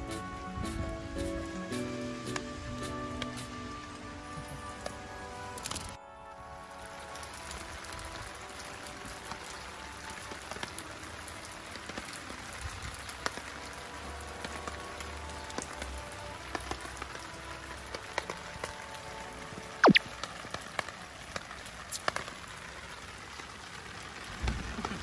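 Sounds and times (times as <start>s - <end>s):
rain on wet pavement: 0.0s - 25.0s.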